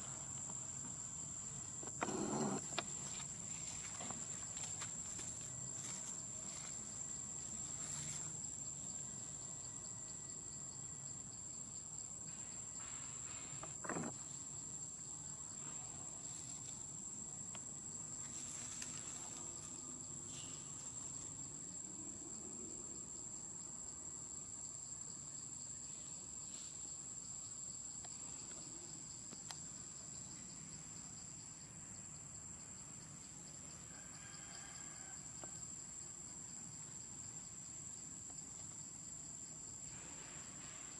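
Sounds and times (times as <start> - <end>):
faint outdoor hiss: 0.0 - 40.9.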